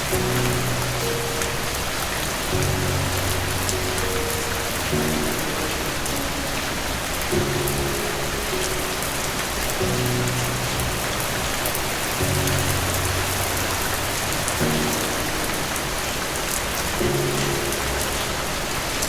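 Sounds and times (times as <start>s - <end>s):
soft low music chords: 0.0s - 19.0s
steady rain falling: 0.0s - 19.0s.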